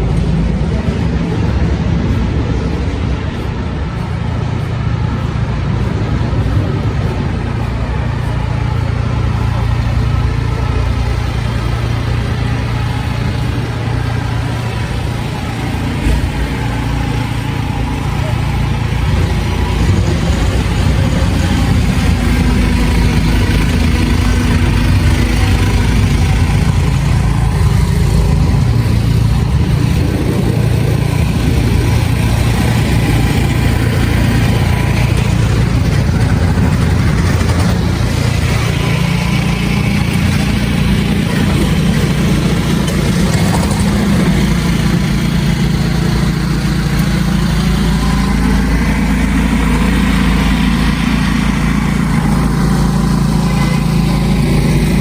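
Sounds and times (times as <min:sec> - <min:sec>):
vehicle engines humming: 0:00.0 - 0:55.0.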